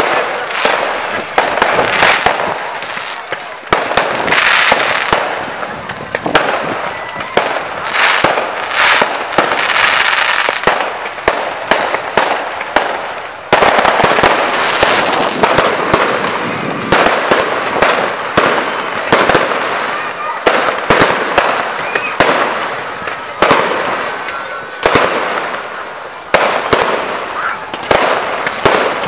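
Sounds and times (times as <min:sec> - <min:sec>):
fireworks bangs and cracks: 0:00.0 - 0:29.0.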